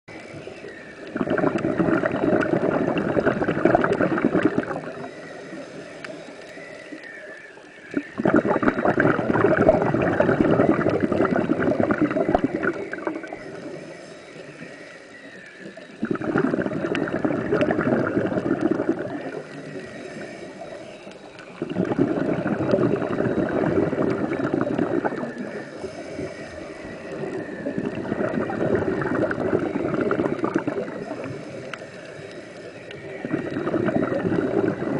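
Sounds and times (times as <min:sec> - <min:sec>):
exhaled bubbles: 0:00.1 - 0:34.9
regulator breathing underwater: 0:00.1 - 0:34.9.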